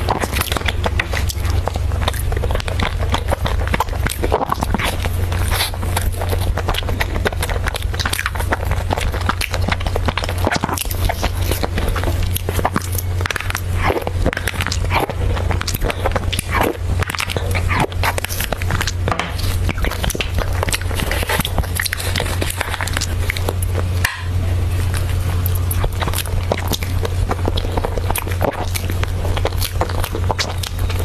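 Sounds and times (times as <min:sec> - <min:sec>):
steady low hum: 0:00.0 - 0:31.0
wet chewing and lip smacking: 0:00.0 - 0:31.0.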